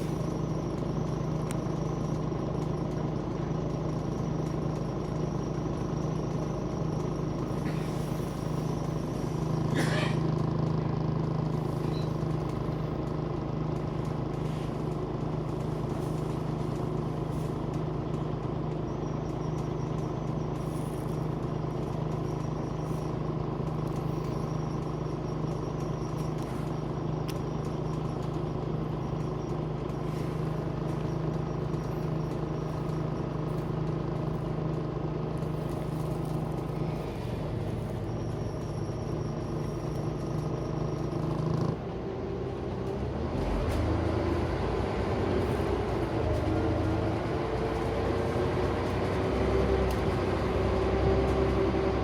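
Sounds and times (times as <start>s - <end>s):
bus diesel engine droning: 0.0s - 52.0s.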